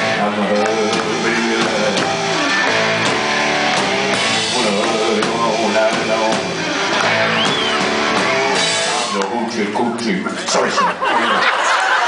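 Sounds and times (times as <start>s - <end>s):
live rock band playing: 0.0s - 10.5s.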